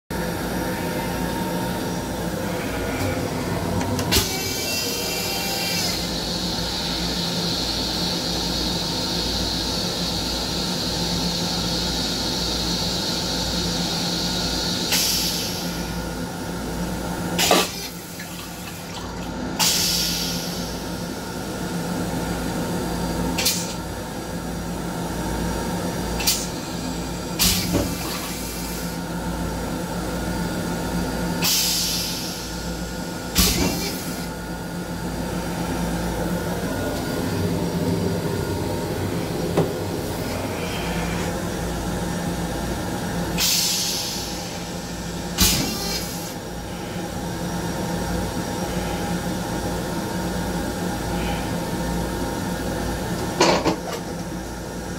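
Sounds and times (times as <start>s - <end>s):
train hum and rumble: 0.1s - 54.9s.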